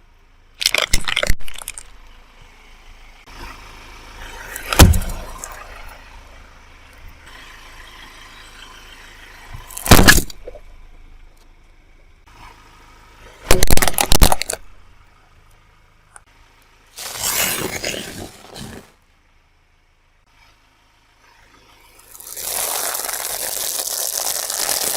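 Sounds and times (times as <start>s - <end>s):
car tyre crushing objects: 0.5s - 12.6s, 13.3s - 15.6s, 16.6s - 19.1s, 21.5s - 24.9s.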